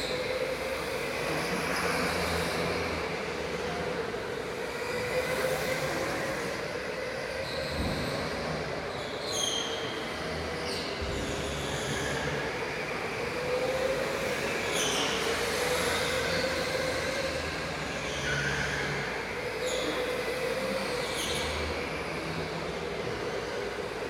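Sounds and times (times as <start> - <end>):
go-kart motors whining: 0.0 - 24.0.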